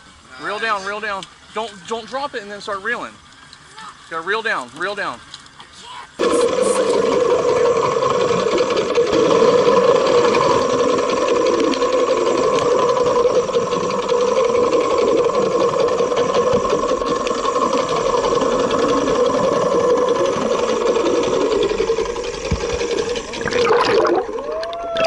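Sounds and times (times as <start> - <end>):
boat motor whirring: 0.0 - 25.0
water noise: 0.0 - 25.0.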